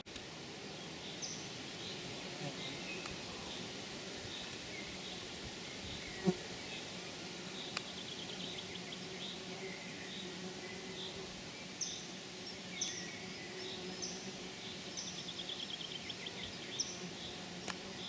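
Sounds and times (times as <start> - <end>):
flying insect buzzing: 0.0 - 18.0.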